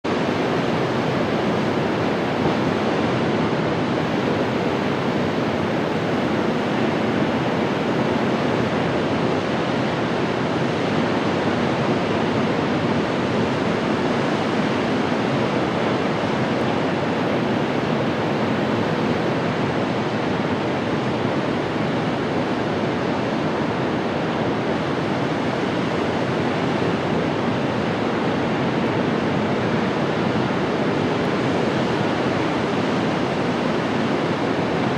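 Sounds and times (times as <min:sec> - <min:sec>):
wind and water rushing: 0:00.0 - 0:34.9.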